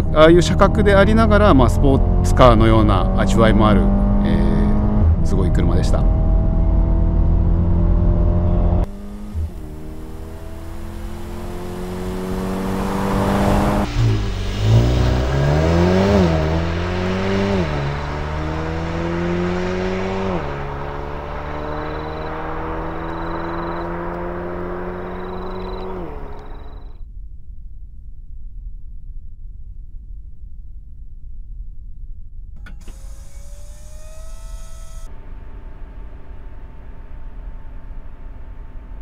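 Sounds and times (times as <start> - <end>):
car engine revving at full throttle: 0.0 - 26.9, 32.6 - 39.0.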